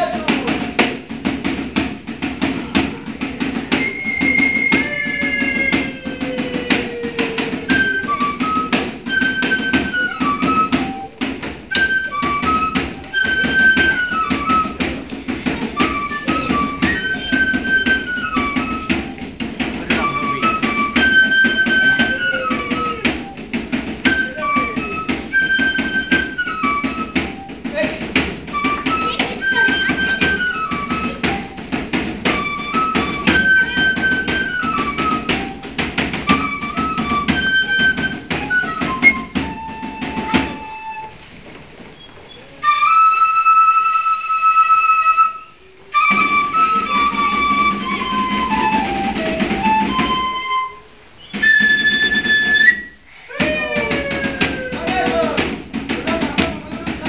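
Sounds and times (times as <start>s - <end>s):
flute playing folk tune: 0.0s - 41.4s, 42.3s - 56.2s.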